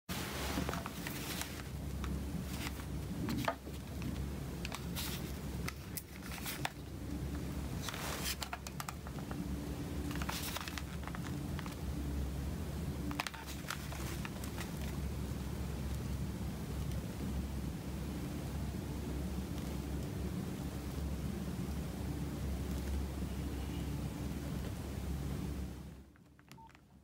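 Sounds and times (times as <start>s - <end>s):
steady low hum: 0.1s - 27.0s.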